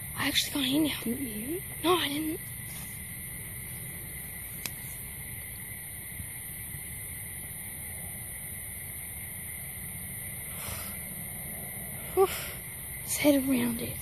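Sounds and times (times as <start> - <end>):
background hiss and low rumble: 0.0 - 14.0.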